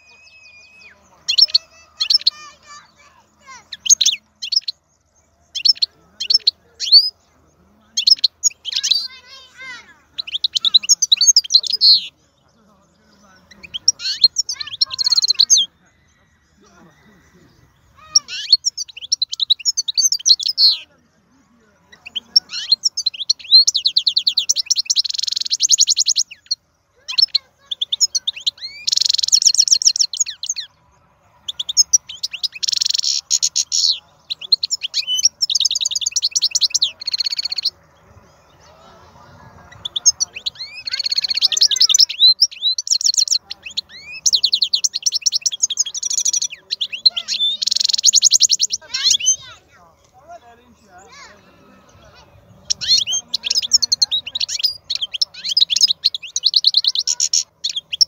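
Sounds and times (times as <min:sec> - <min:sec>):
goldfinch twittering song: 0:00.0 - 0:58.0.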